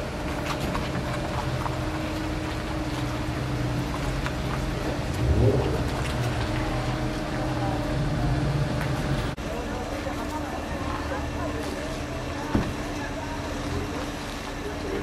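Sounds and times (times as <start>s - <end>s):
car engines running low speed: 0.0s - 15.0s.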